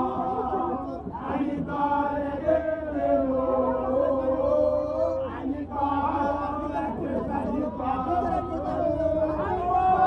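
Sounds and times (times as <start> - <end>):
group chanting in unison: 0.0 - 10.0.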